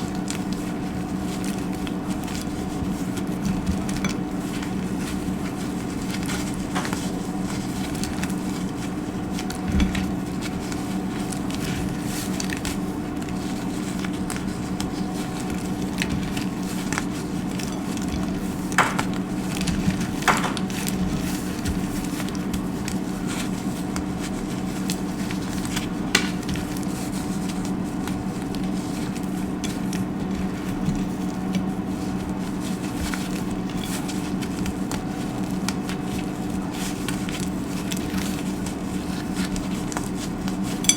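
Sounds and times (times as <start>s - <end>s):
soap crunching and crackling: 0.0s - 40.9s.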